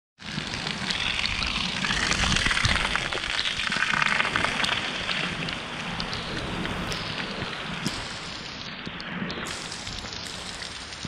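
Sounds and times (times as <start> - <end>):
heavy rain splashing: 0.2 - 11.0.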